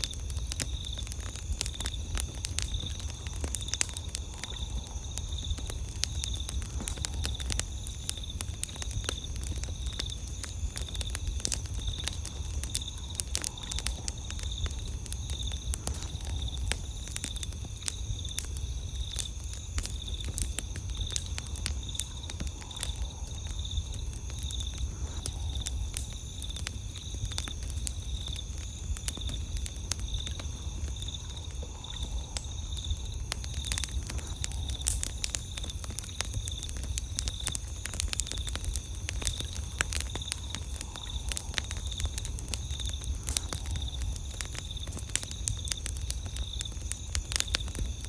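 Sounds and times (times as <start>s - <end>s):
campfire crackling and popping: 0.0s - 48.0s
night insects trilling: 0.0s - 48.0s.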